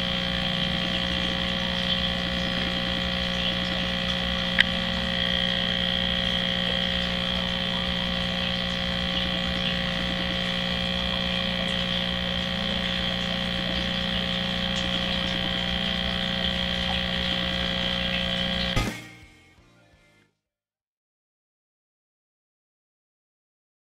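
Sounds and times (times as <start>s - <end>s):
aquarium pumps humming: 0.0s - 19.2s.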